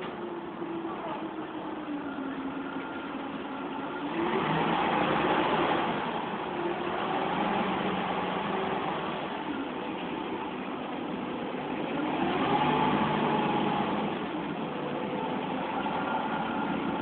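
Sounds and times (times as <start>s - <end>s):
diesel coach engine running: 0.0s - 17.0s.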